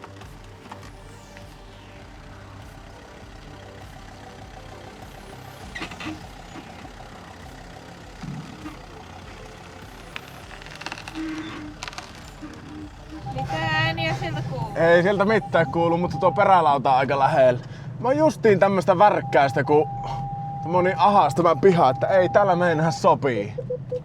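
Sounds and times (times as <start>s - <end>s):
car engine running slowly: 0.0s - 24.0s.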